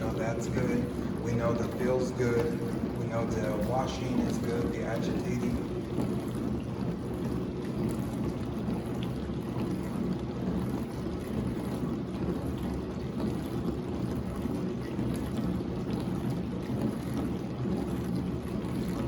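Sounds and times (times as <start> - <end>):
dishwasher pump running: 0.0 - 19.0
water spraying inside tub: 0.0 - 19.0.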